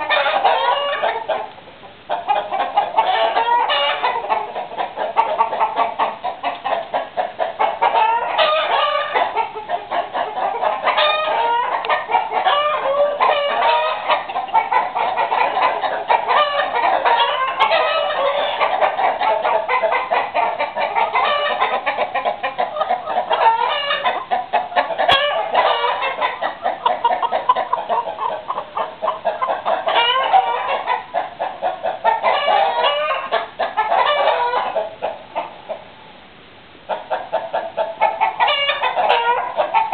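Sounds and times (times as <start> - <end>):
loud long chicken calls: 0.0 - 36.0, 36.9 - 39.9
chickens clucking: 0.0 - 36.2, 36.8 - 39.9.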